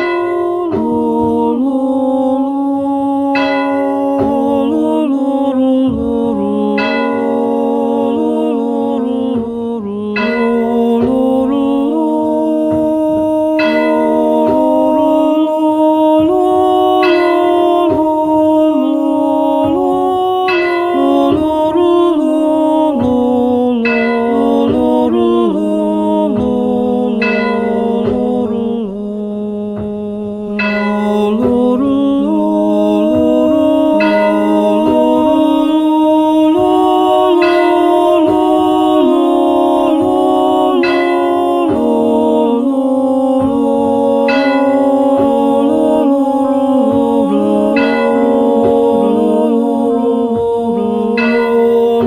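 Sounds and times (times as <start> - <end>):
choral chant in harmony: 0.0 - 52.0
soundtrack music with singing: 0.0 - 52.0.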